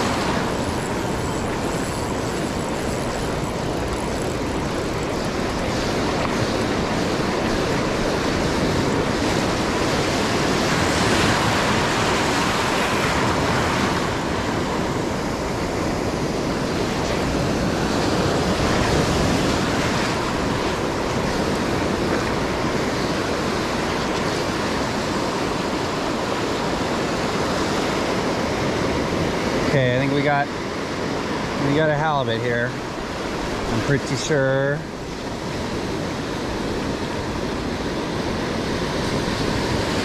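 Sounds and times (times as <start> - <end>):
ocean surf breaking: 0.0 - 40.0
wind on microphone: 0.0 - 40.0.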